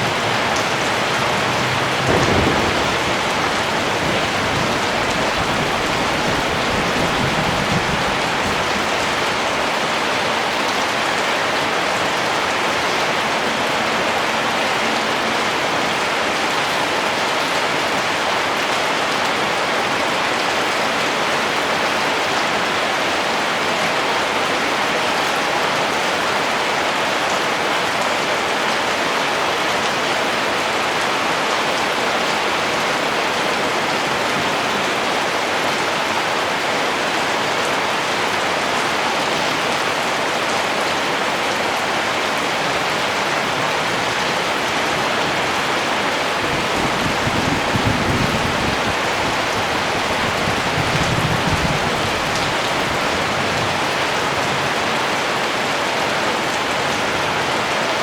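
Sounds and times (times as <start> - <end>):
steady rain hiss: 0.0 - 24.9, 29.6 - 58.0.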